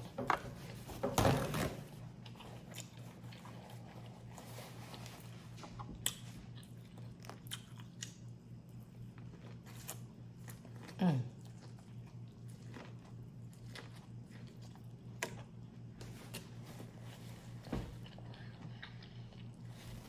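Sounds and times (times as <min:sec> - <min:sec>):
steady low hum: 0:00.0 - 0:20.0
biting and chewing food: 0:02.0 - 0:20.0.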